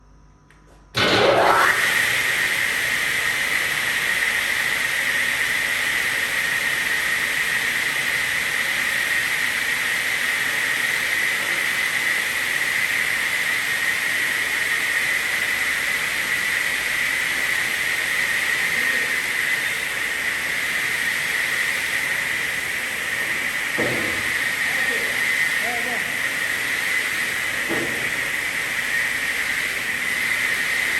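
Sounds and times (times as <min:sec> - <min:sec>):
circular saw blade whining: 0:01.0 - 0:30.9.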